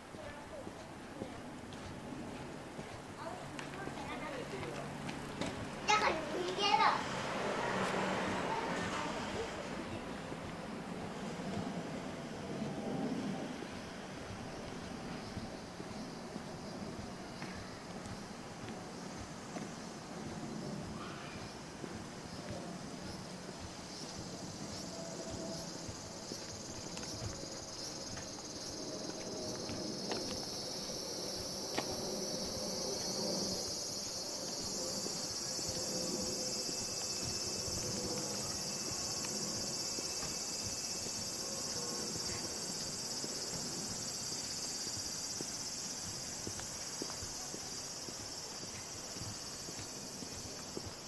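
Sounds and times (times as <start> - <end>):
soft footsteps: 0.0 - 6.8, 7.8 - 51.0
insects chirring: 1.4 - 51.0.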